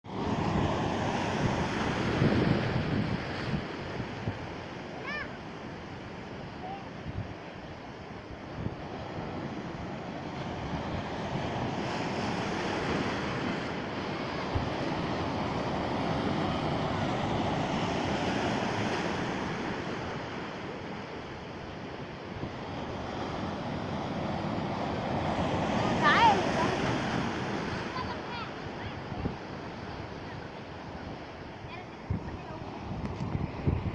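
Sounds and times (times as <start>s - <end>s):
sea waves surging and washing: 0.0s - 33.9s
wind buffeting microphone: 0.2s - 4.9s, 5.8s - 33.9s.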